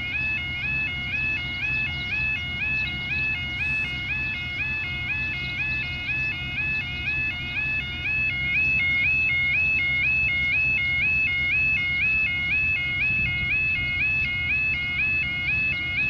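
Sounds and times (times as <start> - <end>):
level crossing two-tone alarm: 0.0 - 16.0.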